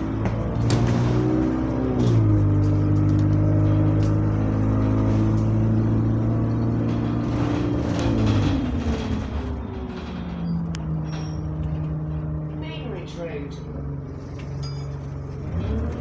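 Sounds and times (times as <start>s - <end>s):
bus engine pulling under load: 0.0s - 16.0s.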